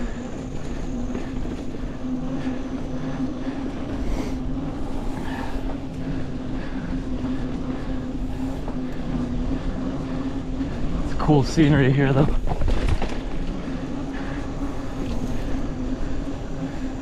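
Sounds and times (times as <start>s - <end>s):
bike rattling over bumps: 0.0s - 17.0s
bike tyre and drivetrain rumble: 0.0s - 17.0s.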